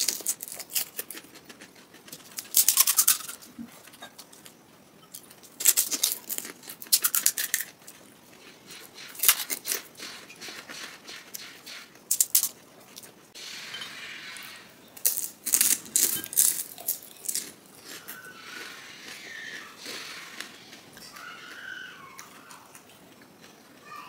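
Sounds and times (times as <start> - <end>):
crisp shells crackling: 0.0 - 3.5, 4.1 - 11.4, 15.0 - 23.6
chewing: 0.0 - 11.8, 15.6 - 23.9.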